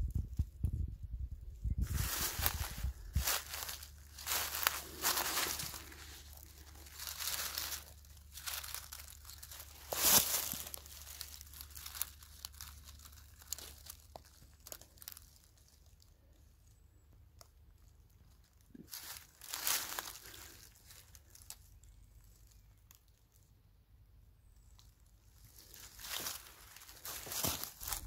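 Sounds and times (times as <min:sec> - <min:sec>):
dry leaves rustling and crackling: 0:01.8 - 0:16.8, 0:17.4 - 0:23.4, 0:24.6 - 0:28.0.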